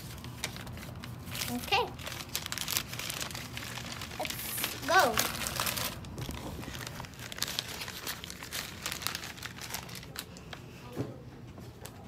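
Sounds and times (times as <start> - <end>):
wrapper crinkling: 0.0 - 10.6.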